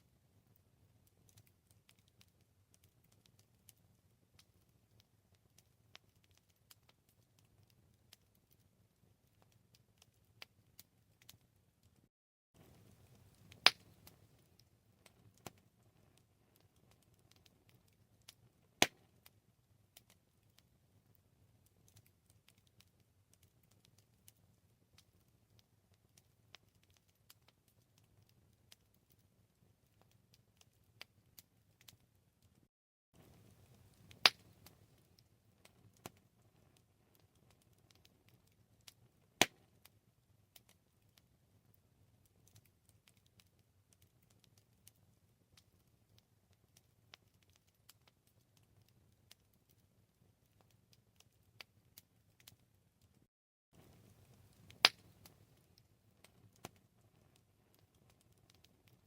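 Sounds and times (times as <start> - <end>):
low rumble of burning fire: 0.0 - 59.0
campfire crackling: 0.1 - 12.0, 12.6 - 59.0.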